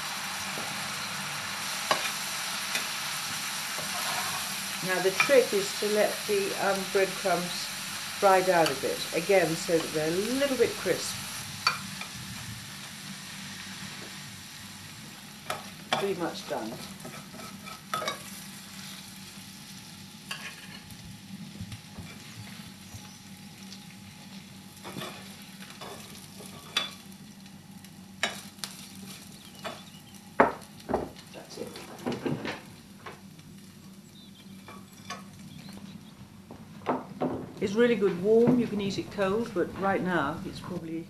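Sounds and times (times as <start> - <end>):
food sizzling in a frying pan: 0.0 - 36.1.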